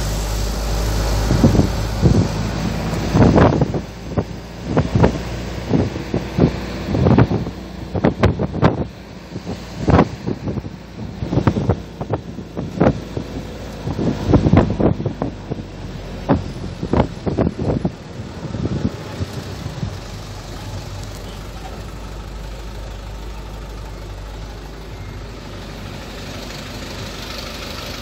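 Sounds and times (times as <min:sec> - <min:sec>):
car engine and road noise: 0:00.0 - 0:28.0
loud buffets: 0:00.0 - 0:28.0.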